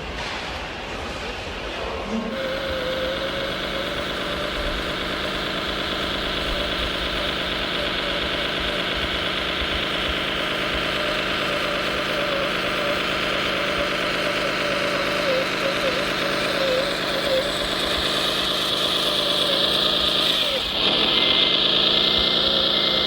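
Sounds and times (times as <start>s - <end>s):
model machine whine and drone: 0.0s - 23.0s.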